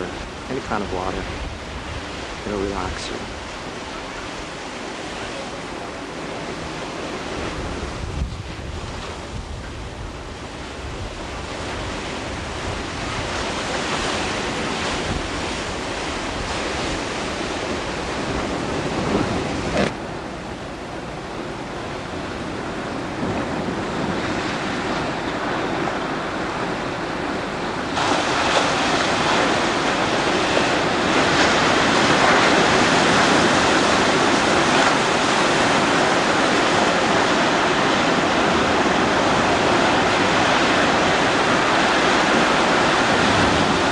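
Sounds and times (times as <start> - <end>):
ocean surf washing in: 0.0 - 43.9
wind buffeting microphone: 0.0 - 43.9.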